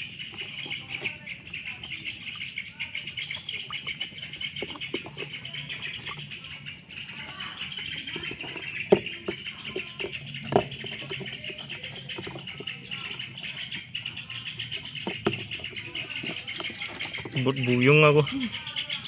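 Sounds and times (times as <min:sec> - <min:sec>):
otter chirping: 0:00.0 - 0:19.0.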